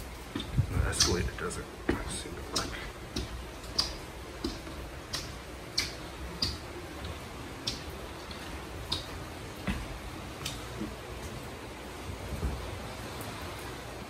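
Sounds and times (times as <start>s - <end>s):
footsteps on hard surface: 0.0s - 11.4s.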